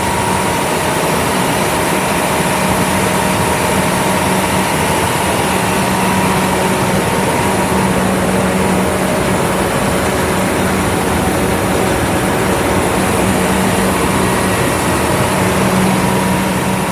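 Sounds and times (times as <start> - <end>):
combine harvester drone: 0.0 - 16.9
faint machine whine: 0.0 - 16.9.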